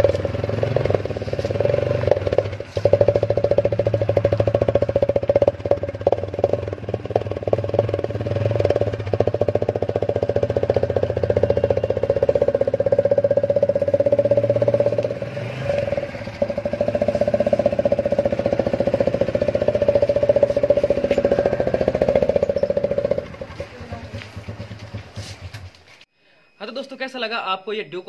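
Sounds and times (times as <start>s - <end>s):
motorcycle exhaust pulsing: 0.0s - 25.9s.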